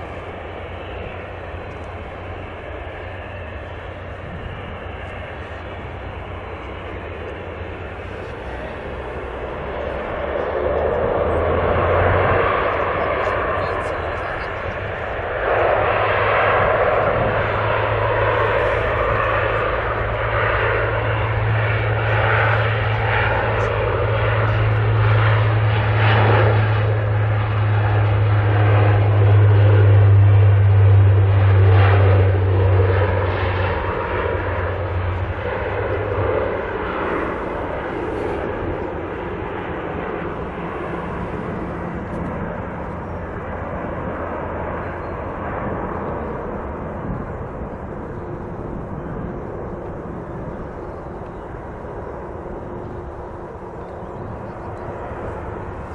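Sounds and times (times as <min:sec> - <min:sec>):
aircraft engine noise: 0:00.0 - 0:55.9
propellers droning: 0:00.0 - 0:55.9.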